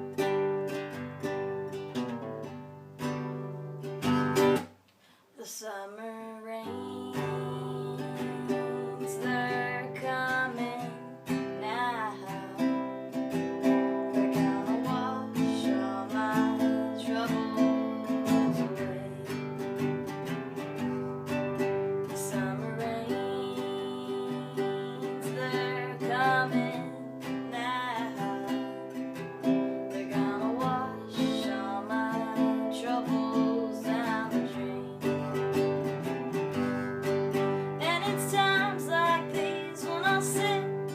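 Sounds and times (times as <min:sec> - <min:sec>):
acoustic guitar music: 0:00.0 - 0:04.9, 0:06.6 - 0:40.9.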